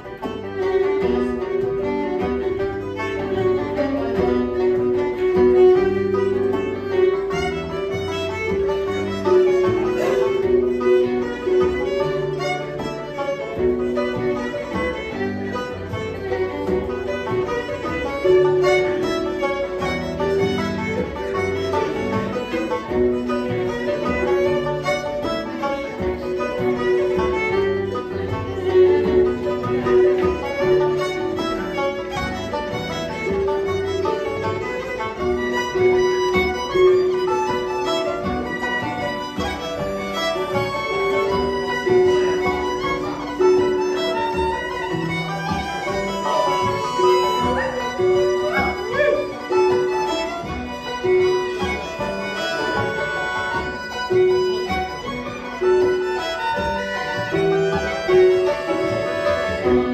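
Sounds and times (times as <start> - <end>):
traditional folk band playing: 0.0 - 59.9.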